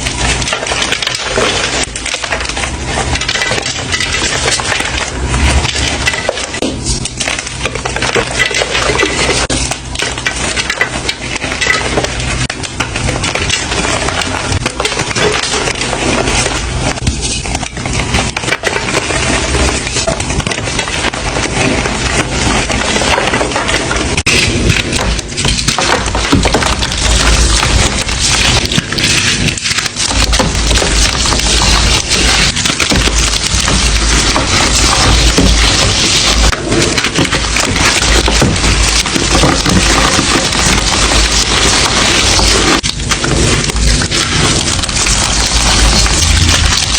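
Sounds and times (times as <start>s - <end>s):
chalk being crushed: 0.0s - 46.9s.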